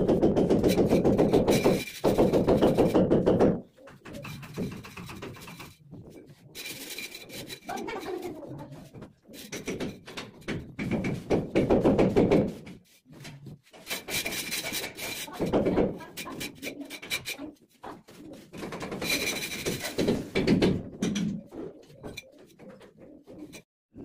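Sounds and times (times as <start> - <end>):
hand tools scraping plaster: 0.0 - 23.7.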